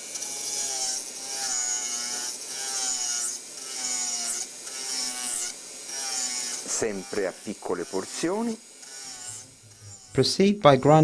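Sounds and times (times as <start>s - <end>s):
cutter grinding metal: 0.0s - 11.0s.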